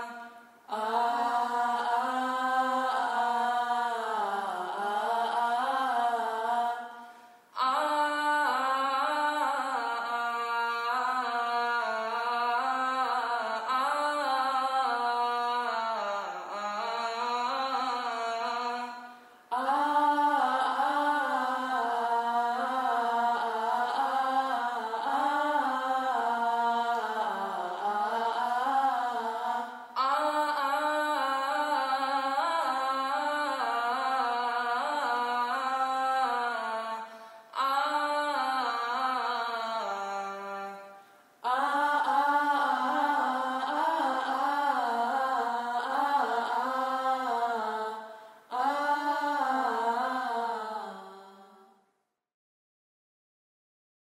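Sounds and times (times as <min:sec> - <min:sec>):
unaccompanied chanted singing: 0:00.0 - 0:51.6.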